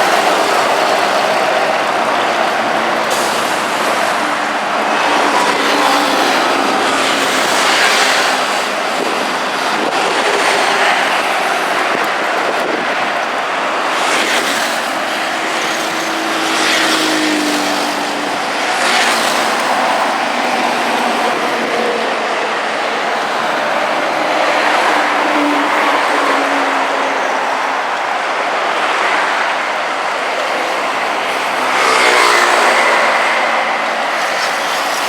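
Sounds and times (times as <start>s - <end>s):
heavy street traffic: 0.0s - 35.0s
vehicles passing by: 0.0s - 35.0s.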